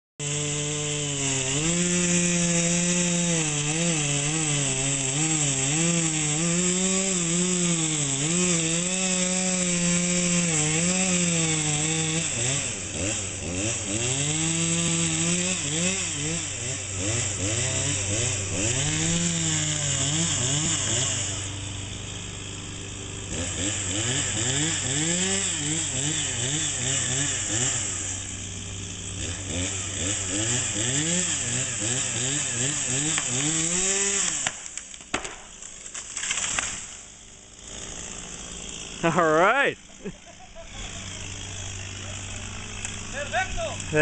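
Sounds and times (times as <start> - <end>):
chainsaw cutting wood: 0.2 - 44.0.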